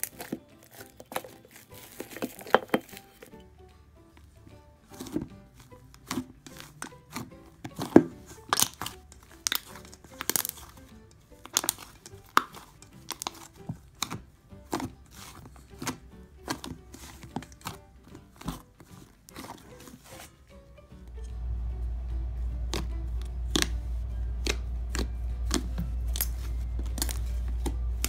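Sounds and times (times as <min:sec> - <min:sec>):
quiet background music: 0:00.0 - 0:28.0.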